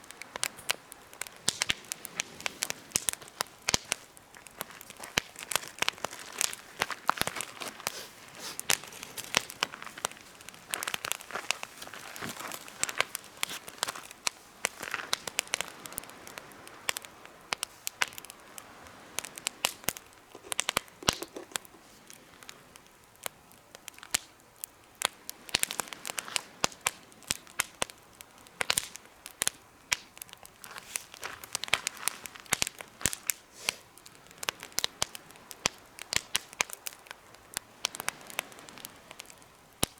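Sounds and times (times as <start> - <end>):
campfire crackling and popping: 0.0 - 39.9
soft fire hiss: 0.0 - 39.9.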